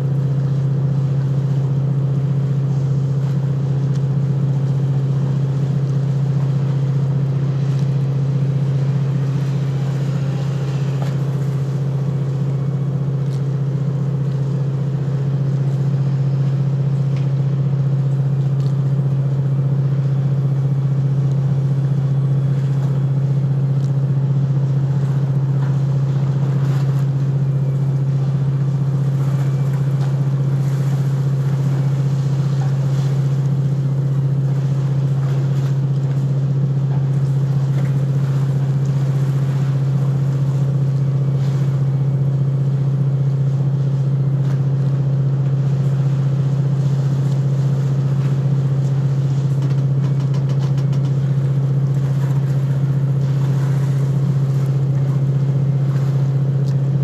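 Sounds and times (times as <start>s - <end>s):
ship diesel engine droning: 0.0s - 57.0s.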